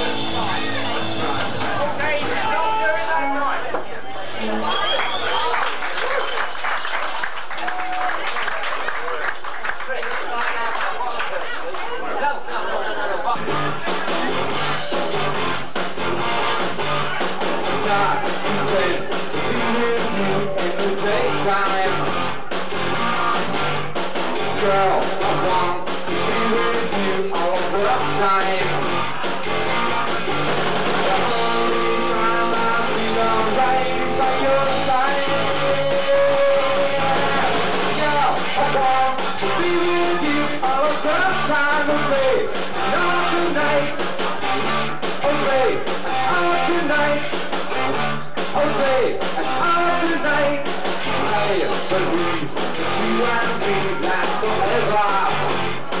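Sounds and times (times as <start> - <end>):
live rock band playing: 0.0 - 3.4, 13.4 - 56.0.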